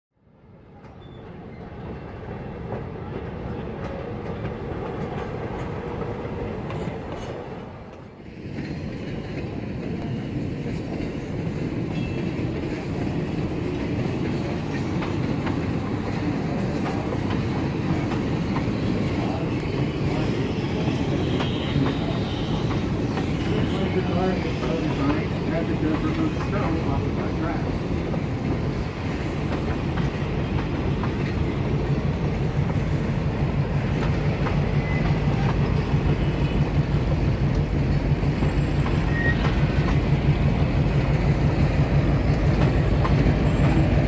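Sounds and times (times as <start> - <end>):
passenger train rolling past: 0.2 - 44.0.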